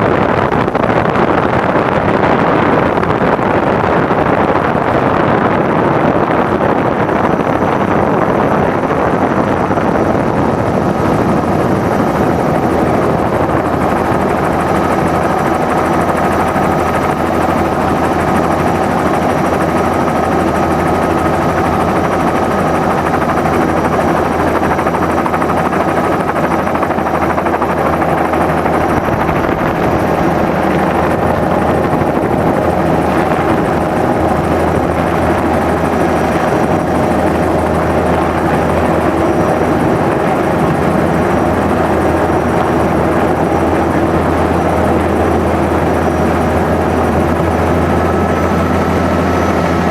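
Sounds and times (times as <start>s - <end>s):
helicopter rotor and engine: 0.0s - 49.9s.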